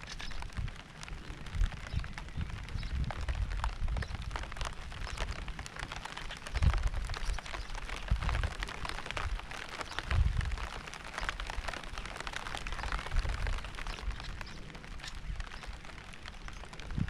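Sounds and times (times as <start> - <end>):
rain drops ticking: 0.0 - 17.0.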